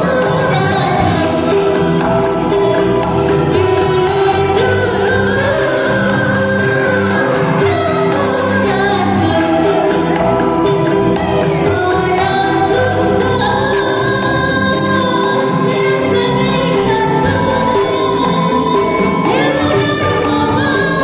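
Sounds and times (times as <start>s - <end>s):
angklung ensemble playing: 0.0s - 21.0s
person singing: 0.0s - 21.0s.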